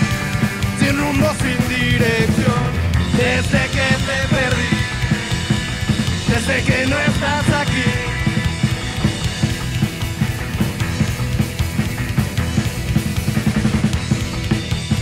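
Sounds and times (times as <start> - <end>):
drum kit: 0.0 - 15.0
electric guitars: 0.0 - 15.0
upright double bass: 0.0 - 15.0.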